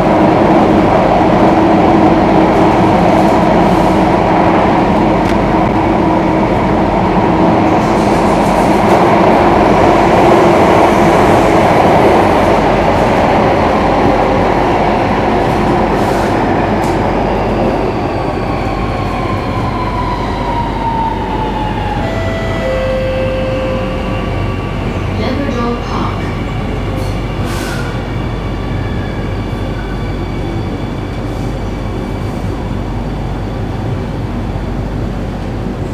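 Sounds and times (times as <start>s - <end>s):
train rumble and hiss on track: 0.0s - 35.9s.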